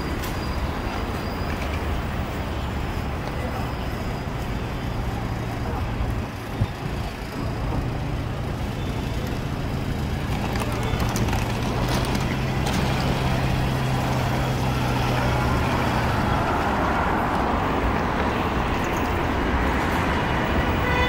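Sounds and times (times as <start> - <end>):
passing vehicles rumble: 0.0 - 21.0.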